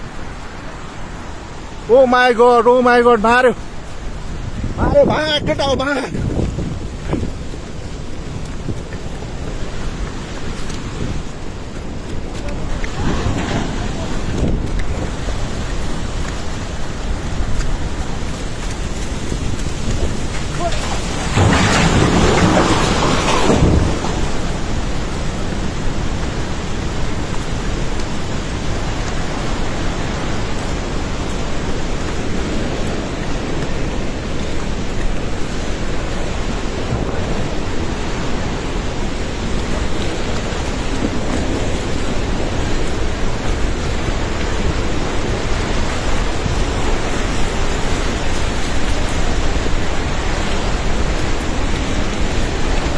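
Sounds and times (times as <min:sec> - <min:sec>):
river rushing: 0:00.0 - 0:52.9.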